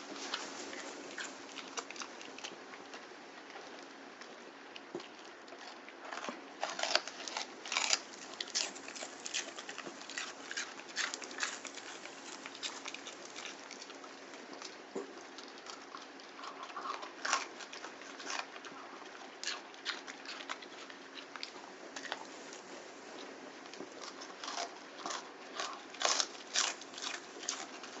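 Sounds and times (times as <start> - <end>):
pet chewing leaves: 0.0 - 28.0.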